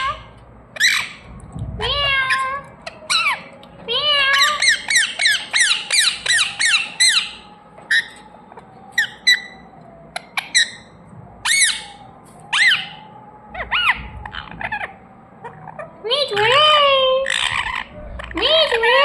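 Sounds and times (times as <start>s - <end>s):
parrot chirping: 0.0s - 9.6s, 10.2s - 19.0s.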